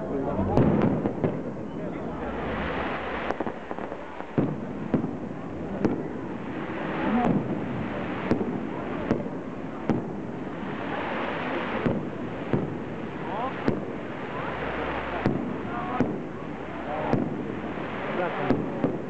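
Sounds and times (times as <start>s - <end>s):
fireworks bursting bangs: 0.3s - 19.0s
fireworks crackling hiss: 0.5s - 19.0s.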